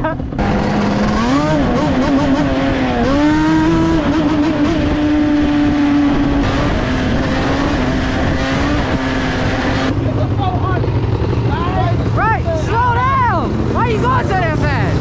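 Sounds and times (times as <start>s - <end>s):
high-revving motorcycle engine: 0.0s - 15.0s.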